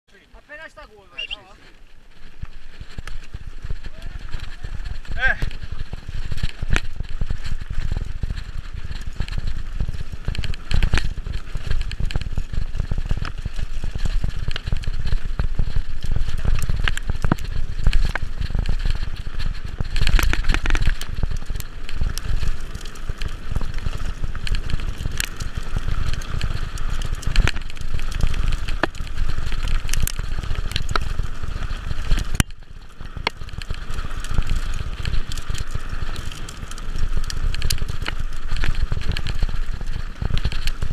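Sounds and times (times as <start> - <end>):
bike rattling over stones: 0.1 - 40.9
wind rumble on microphone: 1.2 - 40.9.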